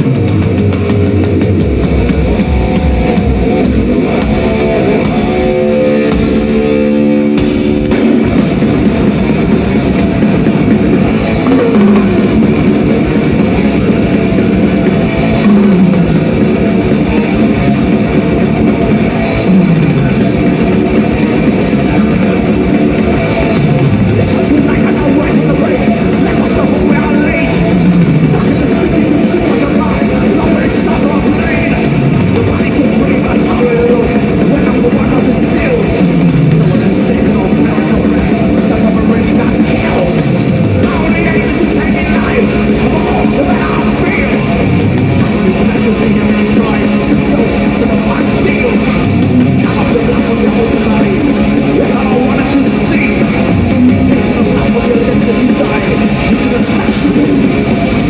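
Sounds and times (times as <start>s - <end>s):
bass: 0.0s - 58.0s
distorted electric guitars: 0.0s - 58.0s
fast drums: 0.0s - 58.0s.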